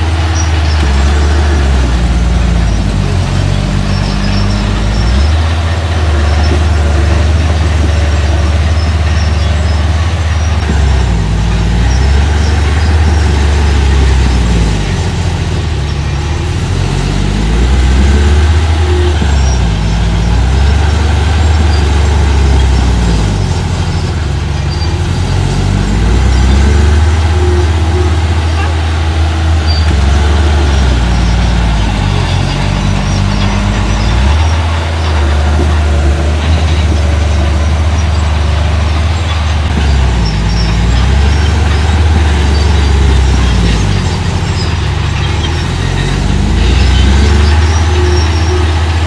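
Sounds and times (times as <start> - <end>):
earthmoving machine engine: 0.0 - 49.0.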